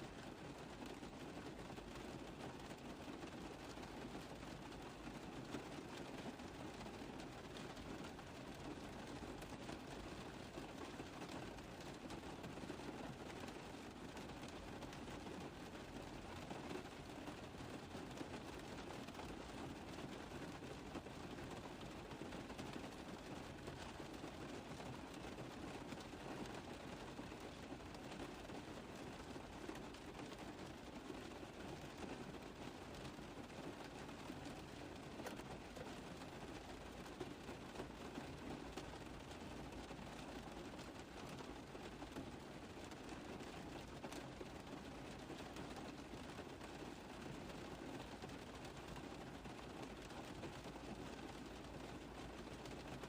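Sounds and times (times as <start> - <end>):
rain drumming on a car roof: 0.0 - 53.0.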